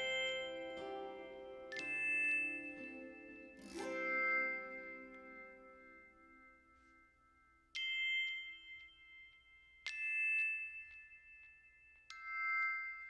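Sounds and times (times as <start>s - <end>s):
bell-like chime notes: 0.0s - 13.0s.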